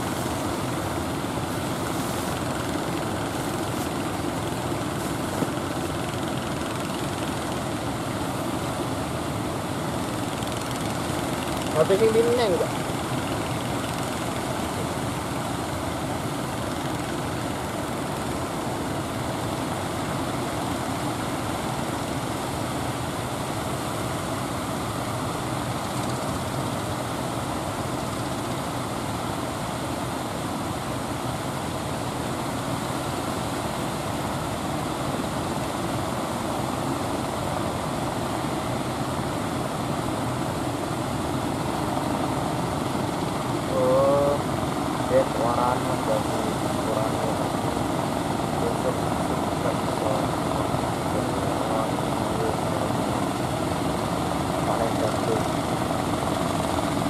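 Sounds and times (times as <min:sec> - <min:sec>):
boat engines running: 0:00.0 - 0:57.0.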